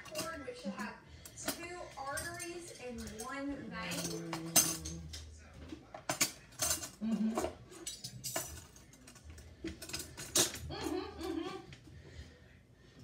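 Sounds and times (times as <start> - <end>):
dishes and cutlery clinking: 0.0 - 11.8.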